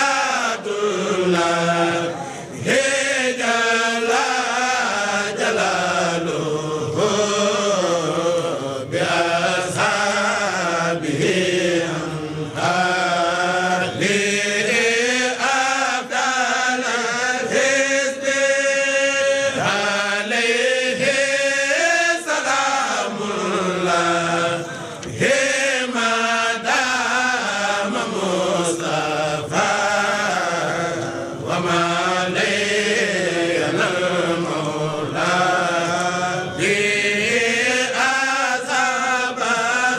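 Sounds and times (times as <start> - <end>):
person chanting devotional poem: 0.0 - 39.9.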